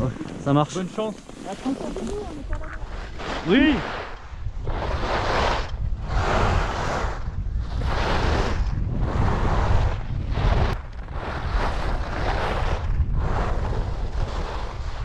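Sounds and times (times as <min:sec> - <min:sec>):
wind buffeting microphone: 0:00.0 - 0:15.0
skis hissing on packed snow: 0:00.6 - 0:15.0.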